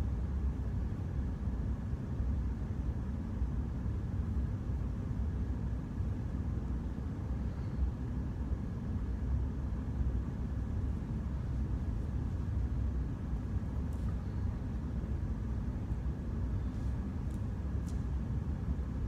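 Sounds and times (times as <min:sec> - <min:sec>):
low room rumble: 0:00.0 - 0:19.0.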